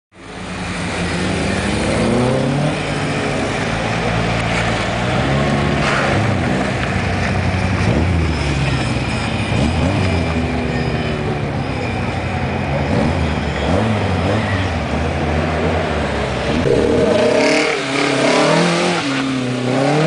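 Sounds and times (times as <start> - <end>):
car engines revving: 0.2 - 10.8, 11.4 - 20.0.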